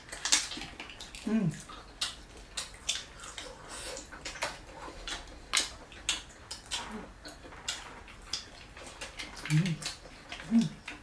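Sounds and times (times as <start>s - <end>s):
chewing and mouth smacking: 0.0s - 11.0s.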